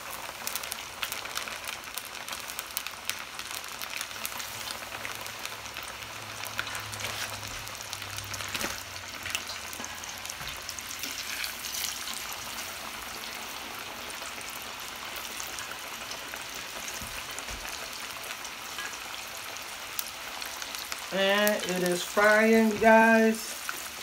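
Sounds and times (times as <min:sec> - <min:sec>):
fish deep-frying in hot oil: 0:00.0 - 0:24.0.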